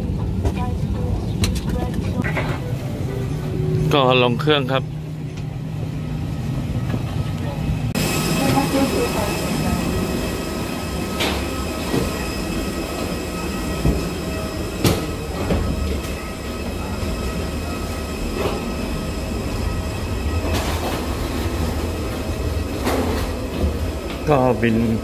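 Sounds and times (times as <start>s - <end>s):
machinery rumble: 0.0s - 25.0s.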